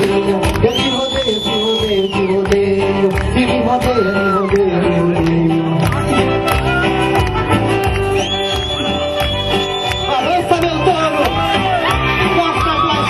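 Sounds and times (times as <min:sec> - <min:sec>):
festive music with singing: 0:00.0 - 0:13.0.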